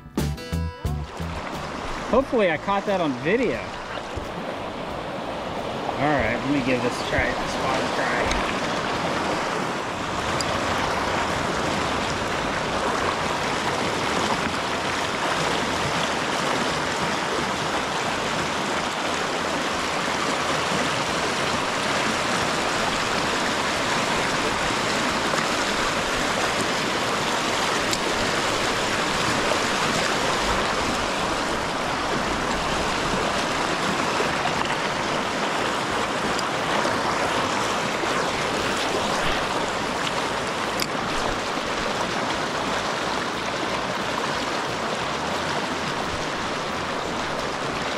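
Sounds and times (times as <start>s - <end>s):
river water rushing: 1.0s - 47.9s.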